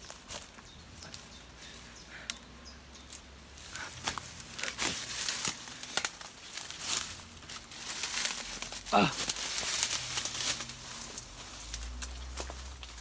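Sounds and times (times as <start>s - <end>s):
leaves rustling: 0.0s - 13.0s
twigs crackling: 0.0s - 13.0s.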